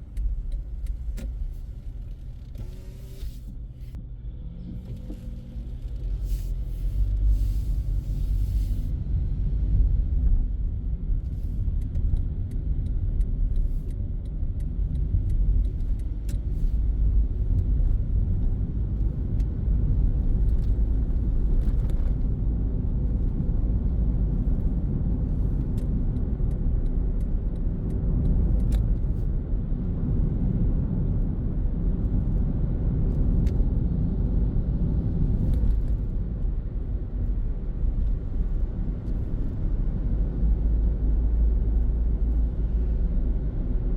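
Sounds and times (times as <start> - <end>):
road and engine rumble: 0.0 - 43.9.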